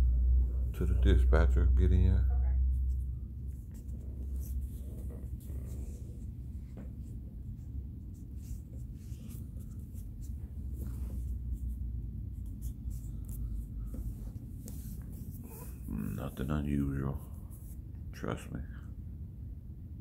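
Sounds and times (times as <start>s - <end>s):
low room rumble: 0.0s - 20.0s.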